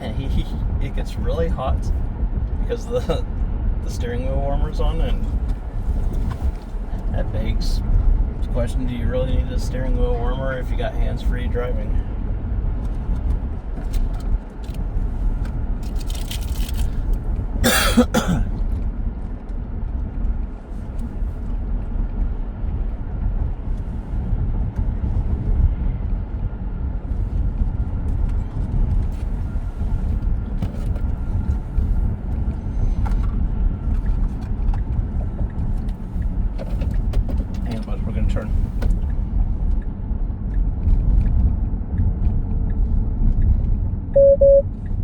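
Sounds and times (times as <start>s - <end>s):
road and tyre noise: 0.0s - 45.0s.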